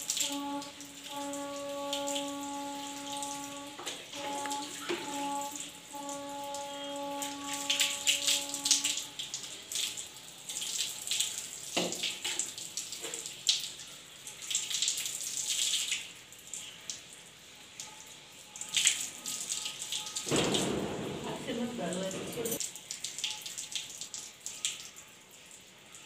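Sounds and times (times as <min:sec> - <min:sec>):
water splashing on concrete: 0:00.0 - 0:17.1, 0:18.6 - 0:26.0
water dripping from wet hair: 0:00.0 - 0:26.0.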